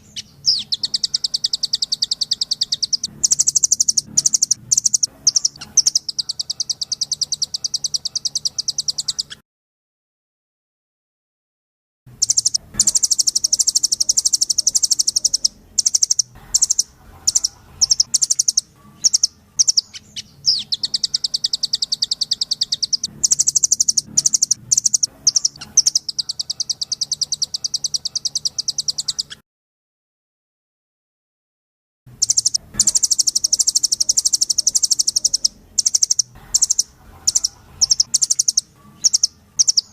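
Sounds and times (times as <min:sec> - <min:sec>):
nuthatch rapid trills: 0:00.0 - 0:09.4, 0:12.1 - 0:29.4, 0:32.1 - 0:39.9.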